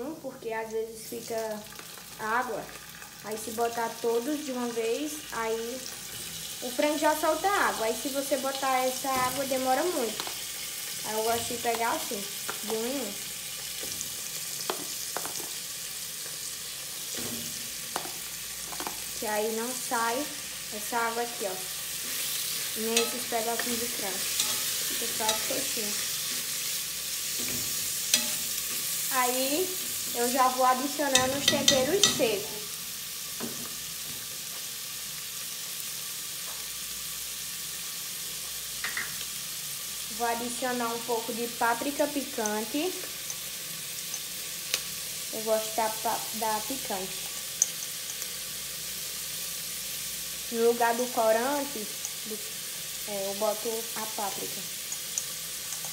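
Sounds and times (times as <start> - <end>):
chicken frying in hot oil: 0.9 - 55.9.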